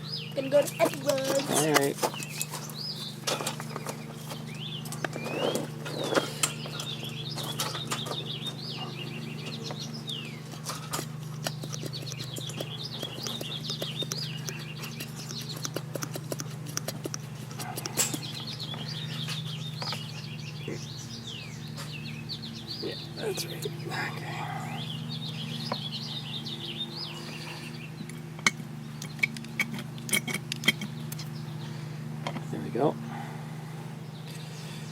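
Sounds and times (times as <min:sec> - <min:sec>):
small birds chirping: 0:00.0 - 0:34.9
steady low hum: 0:00.0 - 0:34.9.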